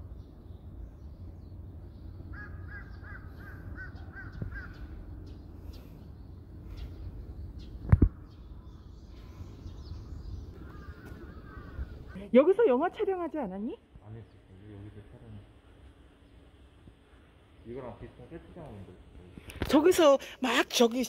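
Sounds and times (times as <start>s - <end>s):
steady low rumble: 0.0s - 19.6s.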